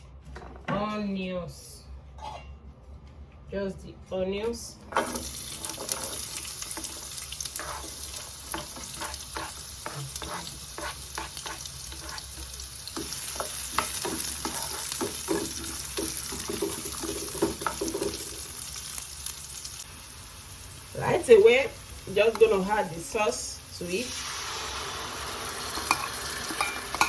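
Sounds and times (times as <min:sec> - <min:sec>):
onions sizzling in hot oil: 0:05.0 - 0:27.0.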